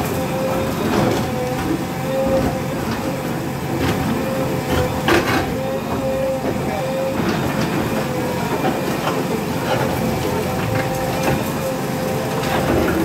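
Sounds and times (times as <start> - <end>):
diesel engine running with whine: 0.0 - 13.0.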